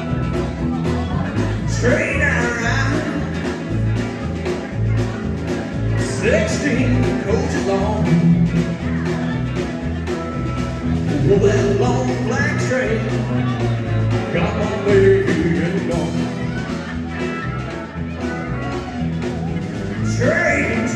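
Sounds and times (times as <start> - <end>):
man singing: 0.0 - 9.6, 10.8 - 19.2, 19.9 - 20.9
rock and roll band playing: 0.0 - 20.9.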